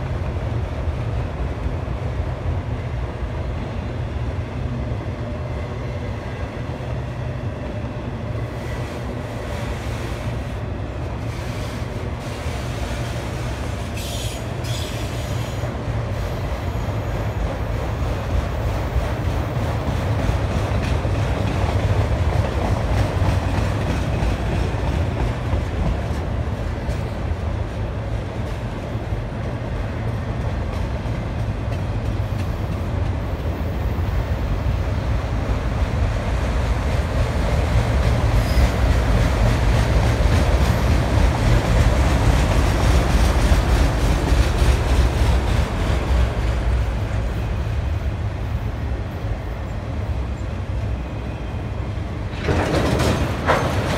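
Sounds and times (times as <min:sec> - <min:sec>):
freight cars rumbling on rails: 0:00.0 - 0:53.9.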